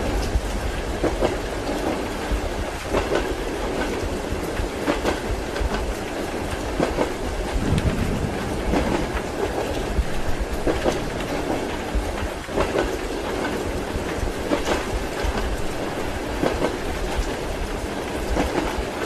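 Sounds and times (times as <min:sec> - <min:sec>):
rolling rumble and hiss: 0:00.0 - 0:19.0
train wheels clickety-clack: 0:00.0 - 0:19.0.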